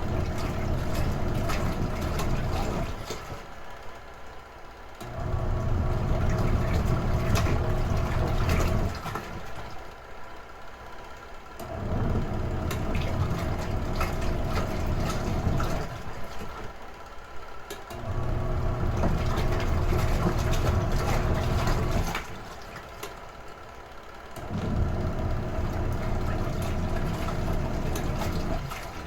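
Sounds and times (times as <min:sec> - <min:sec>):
washing machine agitating: 0:00.0 - 0:04.0, 0:05.0 - 0:10.3, 0:10.9 - 0:29.0.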